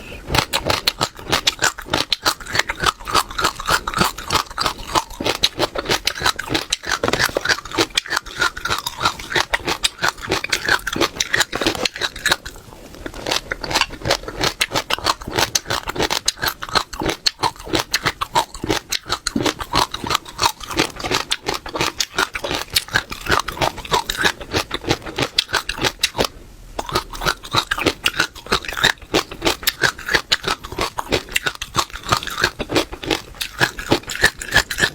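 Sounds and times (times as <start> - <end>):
chewing crunchy seeds: 0.0 - 34.9.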